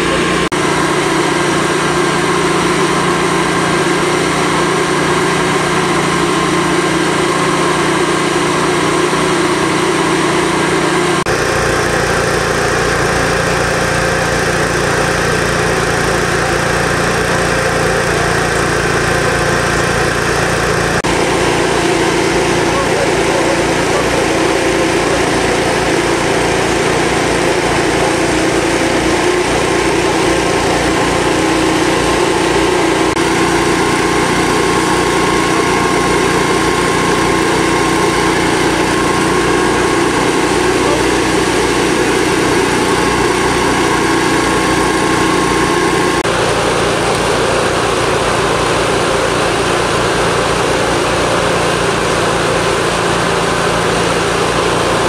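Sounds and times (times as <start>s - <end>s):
engine drone with steady tones: 0.0s - 55.0s.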